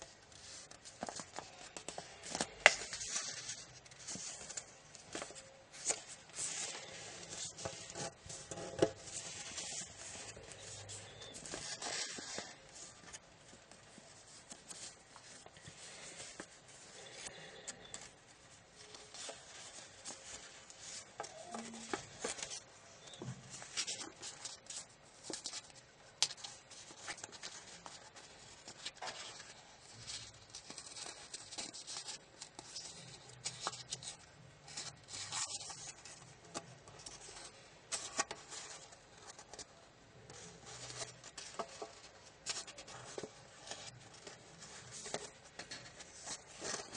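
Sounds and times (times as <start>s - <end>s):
paper rustling and crinkling: 0.0s - 46.9s.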